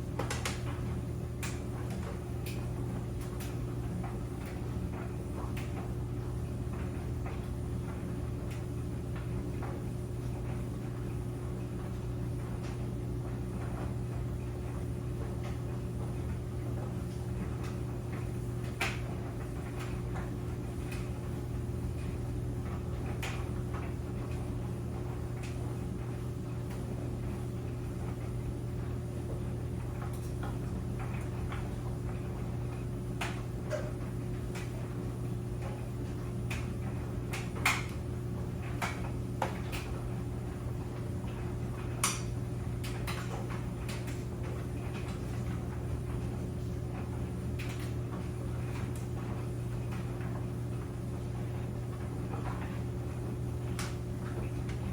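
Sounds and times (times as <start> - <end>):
clothes dryer humming: 0.0 - 54.9.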